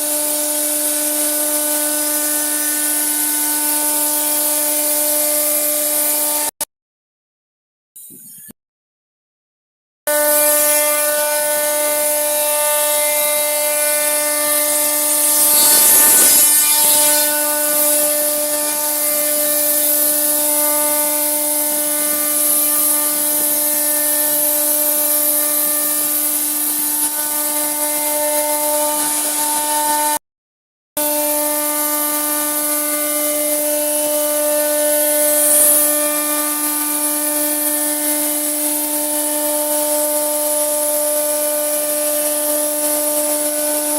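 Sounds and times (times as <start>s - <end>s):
power tool cutting wood: 0.0s - 6.6s, 10.1s - 30.2s, 31.0s - 43.9s.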